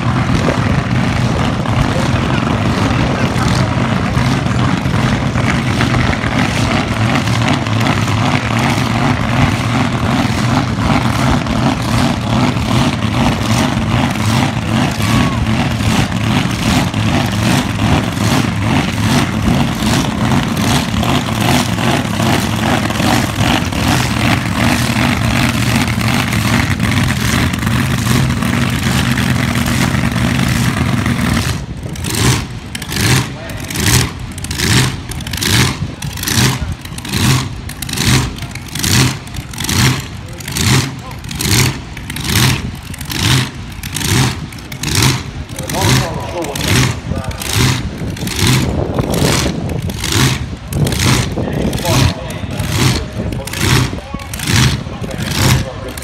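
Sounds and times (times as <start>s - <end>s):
race car engine idling loudly: 0.0s - 56.0s.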